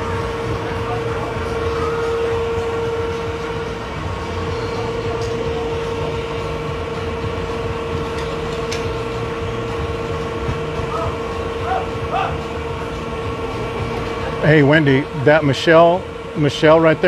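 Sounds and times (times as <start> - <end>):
low throbbing rumble: 0.0 - 16.8
mid-pitched machinery hum: 0.0 - 17.0.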